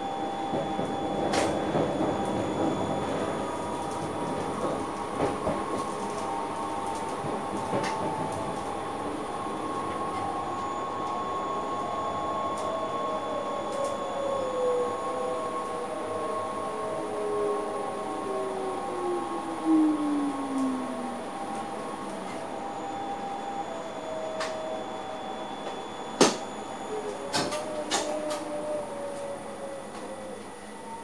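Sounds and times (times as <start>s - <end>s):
electric train drive hum: 0.0s - 31.0s.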